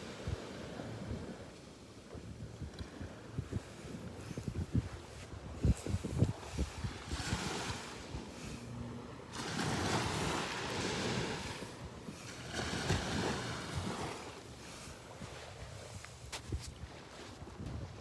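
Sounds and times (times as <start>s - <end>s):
sea waves breaking on shore: 0.0s - 17.6s
wind buffeting microphone: 2.2s - 8.6s, 9.4s - 18.0s.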